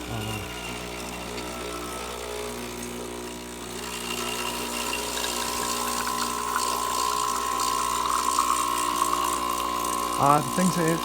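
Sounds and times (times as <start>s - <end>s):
espresso machine pump humming: 0.0s - 11.0s.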